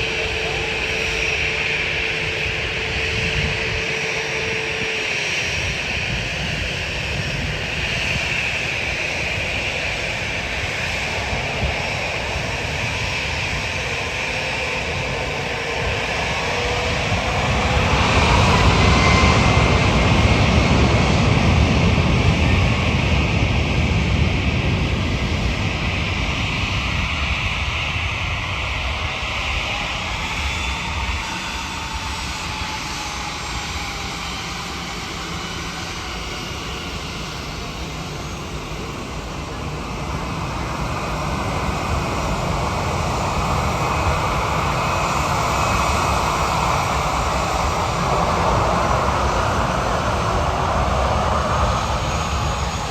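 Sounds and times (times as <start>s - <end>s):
jet engines running: 0.0s - 52.9s
wind buffeting microphone: 0.0s - 52.9s.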